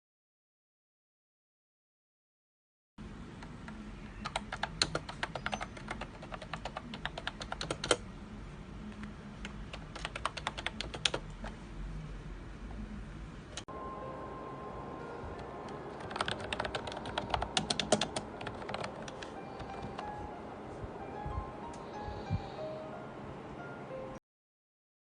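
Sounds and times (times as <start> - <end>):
low steady hum: 3.0 - 24.2.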